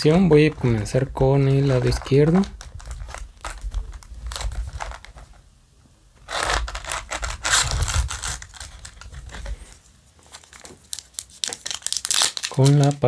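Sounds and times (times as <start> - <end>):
foil packs crinkling: 0.0 - 5.2, 6.3 - 9.6, 10.2 - 13.0.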